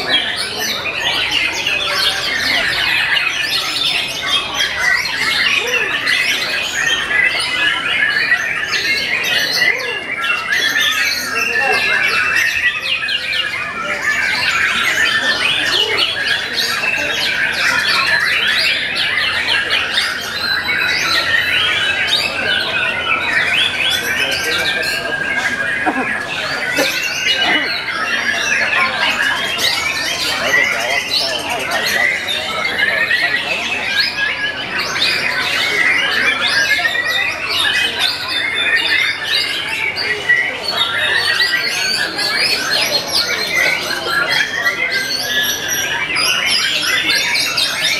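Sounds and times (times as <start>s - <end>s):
birds singing whistles and trills: 0.0s - 47.9s.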